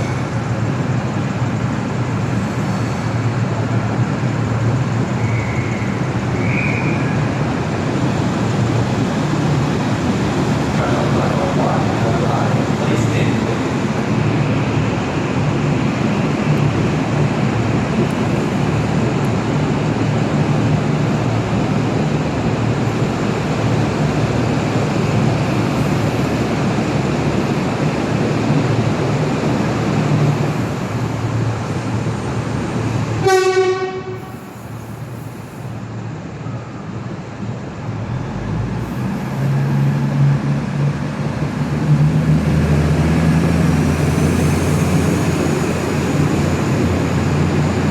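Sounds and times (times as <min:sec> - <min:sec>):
low engine drone: 0:00.0 - 0:47.9
train rumble: 0:00.0 - 0:47.9.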